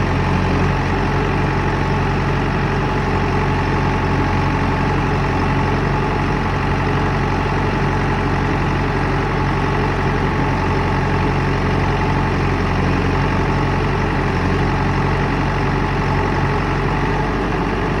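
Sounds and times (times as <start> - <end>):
diesel engine running steadily: 0.0 - 18.0.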